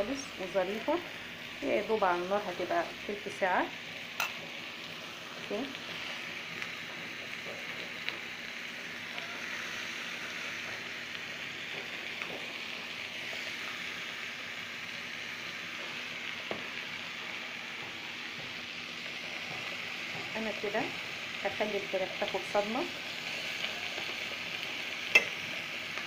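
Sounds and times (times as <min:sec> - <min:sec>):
chicken and onions sizzling in pan: 0:00.0 - 0:26.0.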